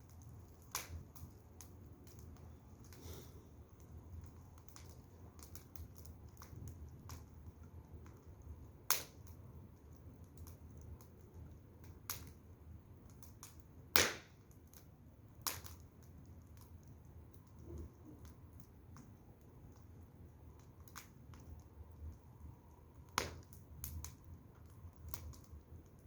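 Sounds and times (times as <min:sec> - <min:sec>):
sharp pops of fire: 0:00.0 - 0:19.8, 0:20.4 - 0:22.1, 0:22.7 - 0:26.0
firewood fire crackling: 0:00.0 - 0:26.0.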